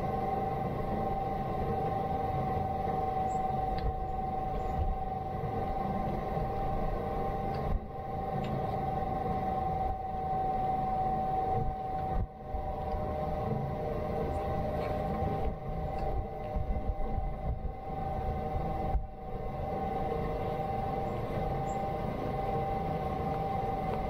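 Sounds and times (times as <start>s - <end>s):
mechanical drone: 0.0s - 24.0s.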